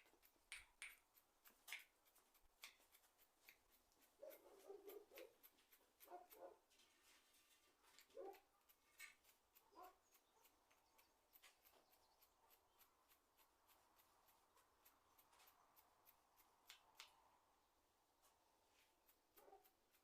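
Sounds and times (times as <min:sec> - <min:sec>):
faint clicks and ticking: 0:00.0 - 0:06.6, 0:07.9 - 0:17.4.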